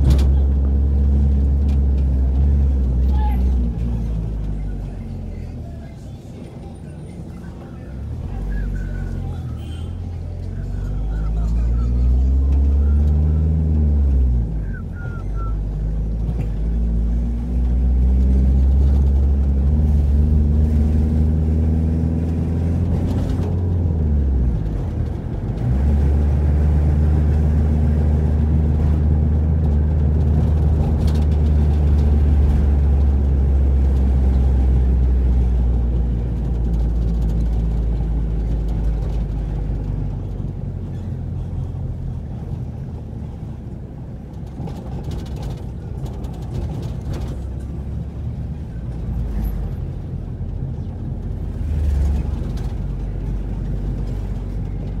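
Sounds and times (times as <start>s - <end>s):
car engine: 0.0s - 55.0s
road noise inside car: 0.0s - 55.0s.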